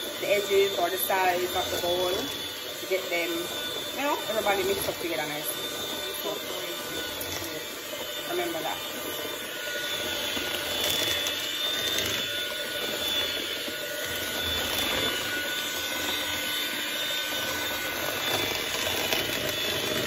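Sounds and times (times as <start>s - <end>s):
electric hand mixer whirring: 0.0s - 20.0s.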